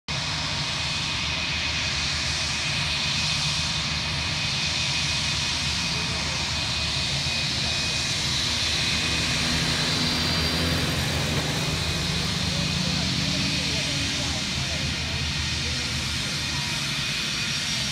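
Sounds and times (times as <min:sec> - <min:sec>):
jet engines at takeoff power: 0:00.1 - 0:17.9.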